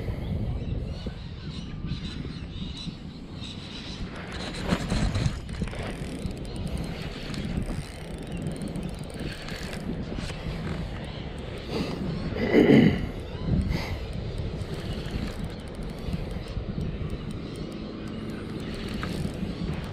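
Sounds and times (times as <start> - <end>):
wind rumbling on microphone: 0.0 - 19.9.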